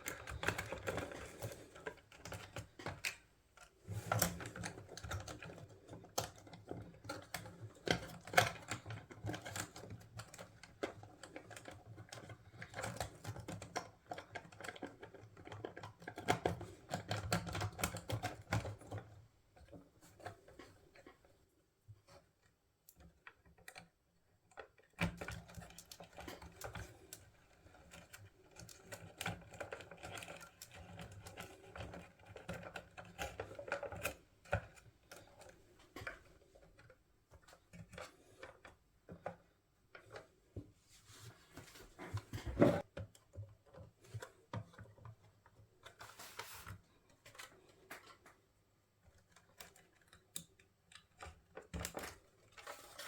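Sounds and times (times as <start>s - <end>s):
hands and tools clicking on plastic: 0.0s - 40.8s, 41.5s - 53.0s.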